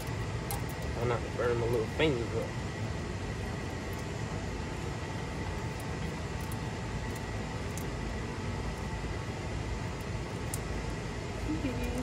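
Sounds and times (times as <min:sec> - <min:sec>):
faint hum: 0:00.0 - 0:12.0
low rumbling noise: 0:00.0 - 0:12.0.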